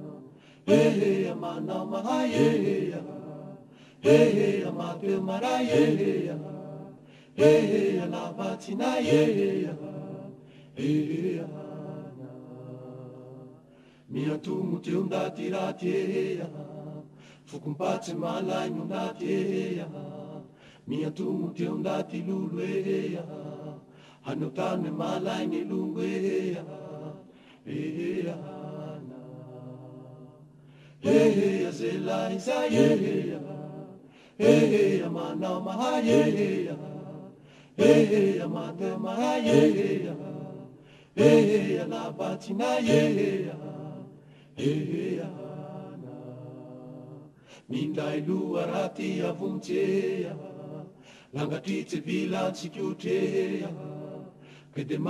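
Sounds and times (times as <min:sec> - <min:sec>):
chant-like hymn singing: 0:00.0 - 0:55.0.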